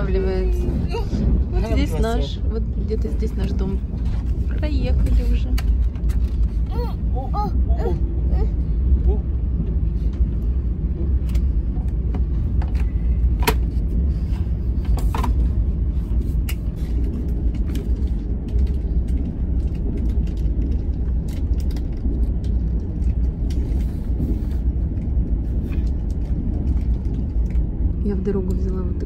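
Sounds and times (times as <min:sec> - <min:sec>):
train rumble inside carriage: 0:00.0 - 0:29.0.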